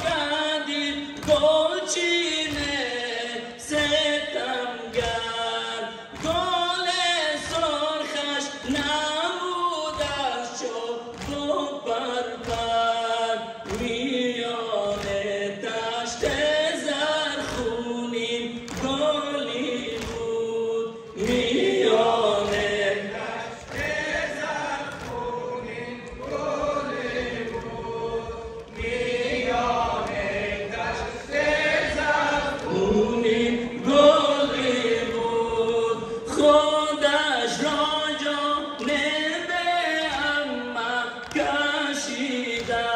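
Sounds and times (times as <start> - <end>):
men chanting a lament: 0.0 - 42.9.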